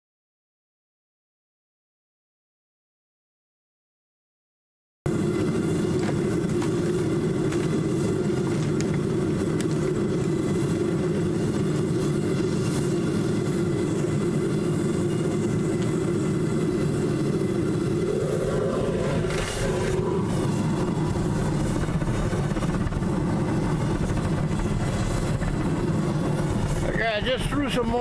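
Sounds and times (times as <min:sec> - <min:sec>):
furnace burner rushing: 0:05.1 - 0:28.0.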